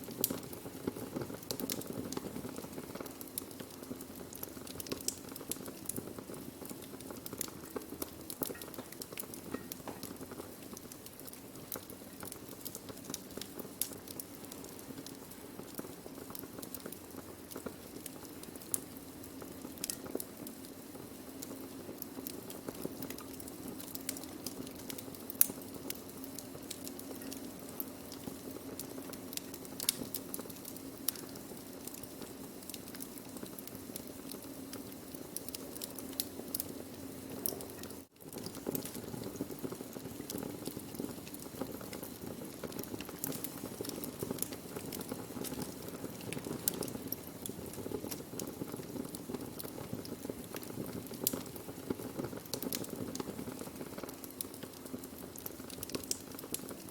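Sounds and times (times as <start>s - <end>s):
burning wood crackling: 0.0s - 56.9s.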